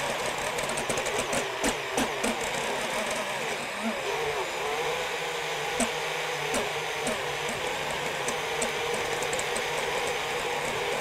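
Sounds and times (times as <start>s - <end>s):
drone motors whirring: 0.0s - 11.0s.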